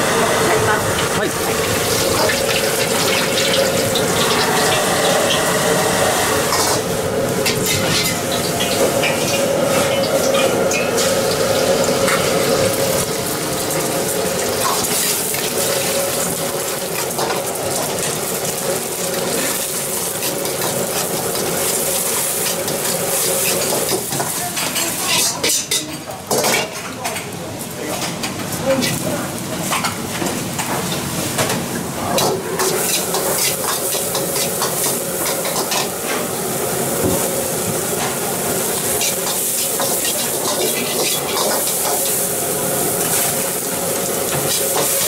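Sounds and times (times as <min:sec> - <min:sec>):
gas burner roaring: 0:00.0 - 0:25.5, 0:27.4 - 0:45.0.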